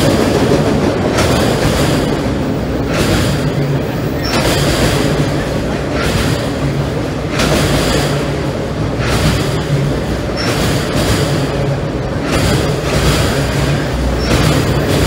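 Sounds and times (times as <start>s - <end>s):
train wheels rumbling on bridge: 0.0s - 15.0s.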